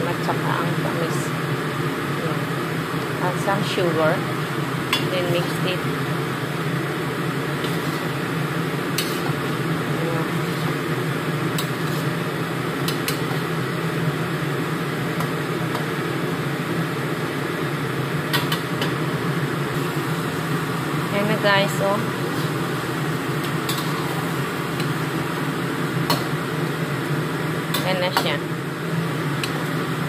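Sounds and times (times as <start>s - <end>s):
exhaust fan humming: 0.0s - 30.0s
food frying in a wok: 0.0s - 30.0s.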